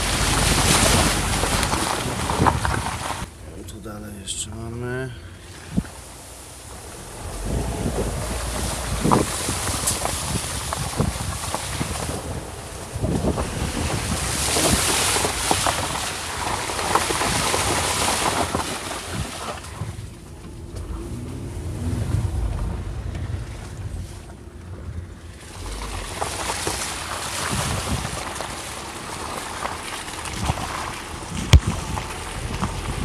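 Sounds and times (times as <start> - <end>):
wheels splashing through puddles: 0.0 - 3.7, 4.9 - 33.0
car low rumble: 0.0 - 33.0
wind buffeting microphone: 5.6 - 29.2, 30.1 - 33.0.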